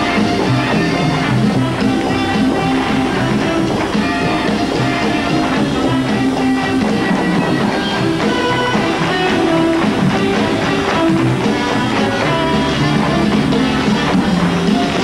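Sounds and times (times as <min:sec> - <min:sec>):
brassy orchestral show music: 0:00.0 - 0:15.0.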